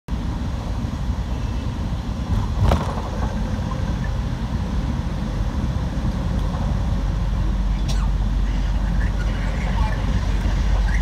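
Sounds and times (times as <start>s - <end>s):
road and engine rumble: 0.1s - 11.0s.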